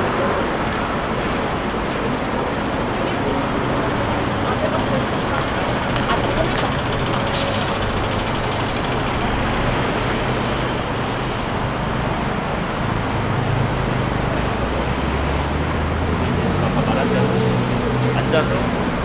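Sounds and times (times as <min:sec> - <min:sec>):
traffic hum of engines and tyres: 0:00.0 - 0:19.0.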